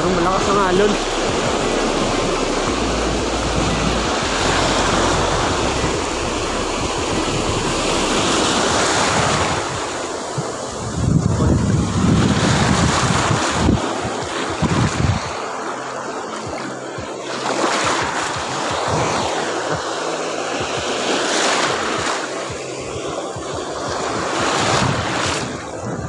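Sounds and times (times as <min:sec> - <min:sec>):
waves breaking on shore: 0:00.0 - 0:26.0
wind noise on microphone: 0:00.0 - 0:26.0.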